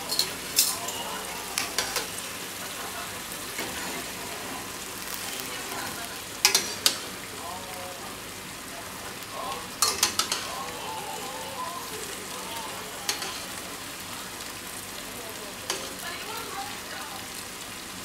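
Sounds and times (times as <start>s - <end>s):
sauce sizzling in frying pan: 0.0s - 18.0s.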